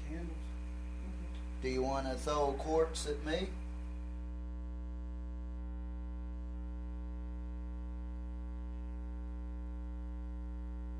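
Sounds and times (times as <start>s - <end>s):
electrical mains hum: 0.0s - 10.9s.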